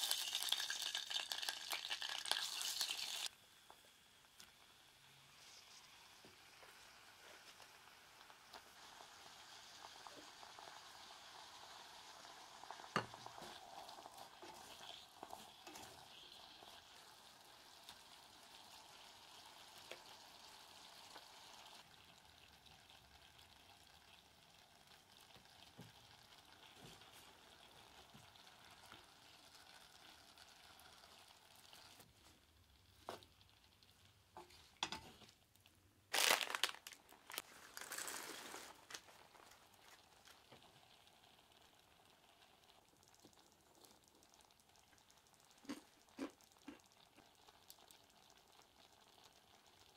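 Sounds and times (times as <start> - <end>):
vegetables sizzling in pot: 0.0 - 44.8, 45.5 - 49.9.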